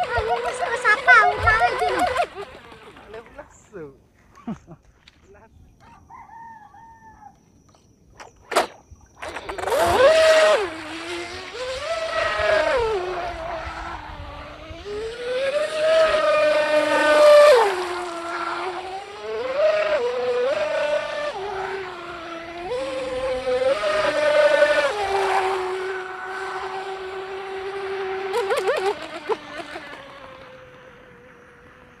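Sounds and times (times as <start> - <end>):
electric motor whining: 0.0 - 3.8, 8.2 - 32.0.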